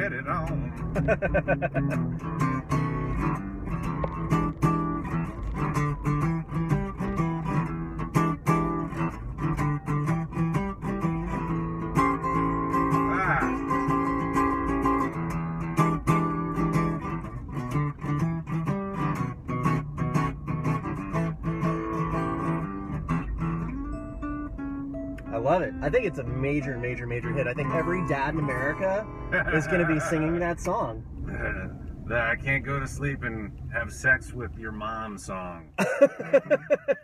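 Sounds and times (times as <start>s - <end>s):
acoustic guitar playing blues: 0.0s - 37.0s.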